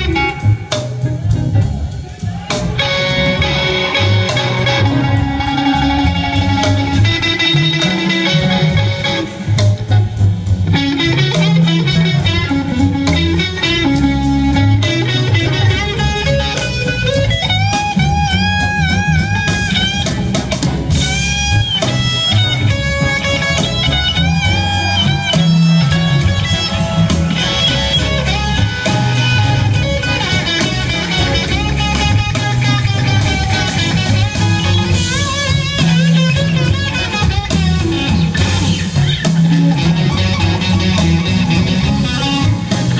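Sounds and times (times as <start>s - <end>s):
bass and drums: 0.0s - 42.9s
electric guitar lead: 0.0s - 42.9s.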